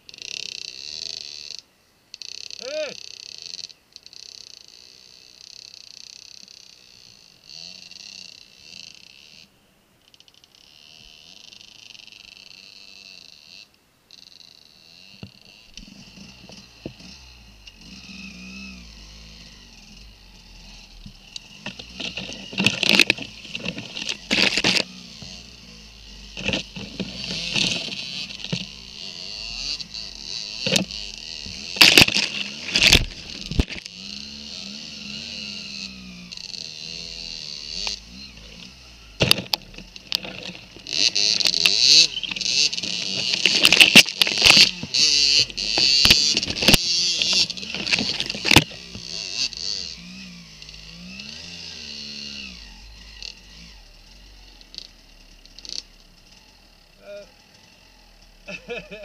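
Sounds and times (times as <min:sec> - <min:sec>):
dirt bike engine running: 0:00.0 - 0:01.6, 0:02.3 - 0:09.5, 0:10.2 - 0:59.0
branches cracking against bike: 0:00.1 - 0:59.0.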